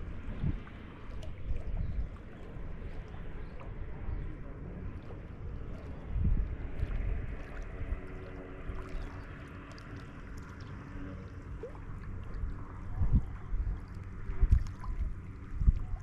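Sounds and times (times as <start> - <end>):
faint water sounds: 0.0 - 16.0
wind rumble on microphone: 0.0 - 16.0.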